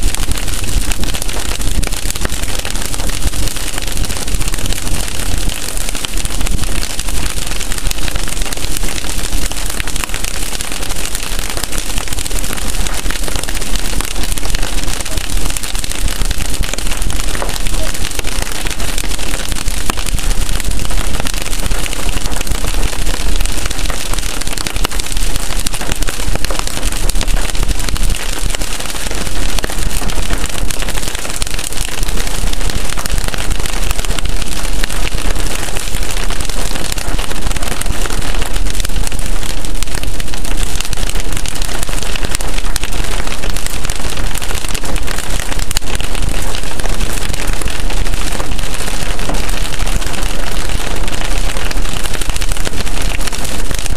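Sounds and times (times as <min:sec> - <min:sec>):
rain pattering on car windshield: 0:00.0 - 0:53.9.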